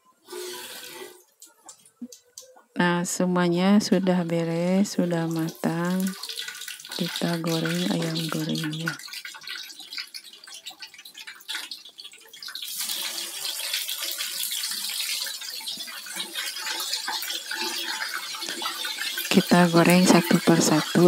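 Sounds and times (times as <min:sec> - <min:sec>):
oil sizzling and crackling: 0:00.1 - 0:02.7, 0:03.8 - 0:21.0.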